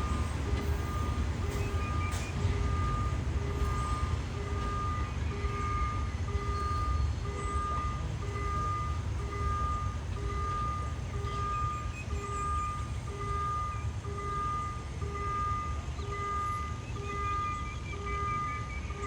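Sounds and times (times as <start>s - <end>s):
electronic warning beep: 0.0s - 19.0s.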